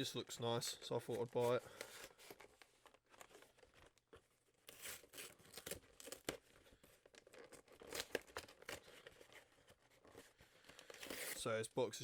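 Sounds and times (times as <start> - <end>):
cardboard and plastic tearing: 1.2 - 11.5.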